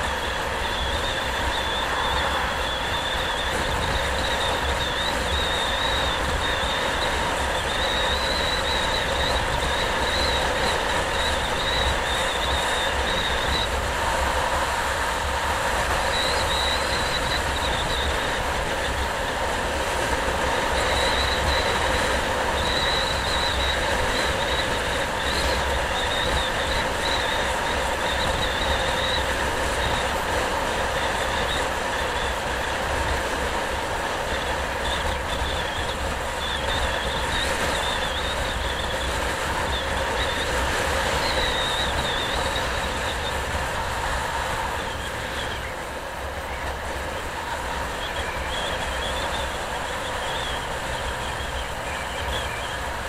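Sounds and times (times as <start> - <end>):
high wavering whine: 0.0 - 53.0
vehicle road noise: 0.0 - 53.0
wind buffeting microphone: 0.0 - 53.0.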